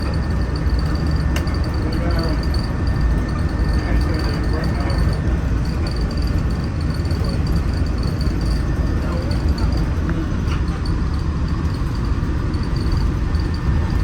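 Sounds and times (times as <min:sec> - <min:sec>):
faint voices: 0:00.0 - 0:12.0
monorail train rumble: 0:00.0 - 0:14.0.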